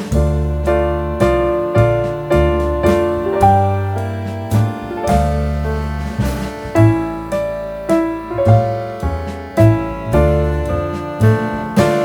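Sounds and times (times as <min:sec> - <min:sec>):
bass line: 0:00.0 - 0:12.0
piano background music: 0:00.0 - 0:12.0.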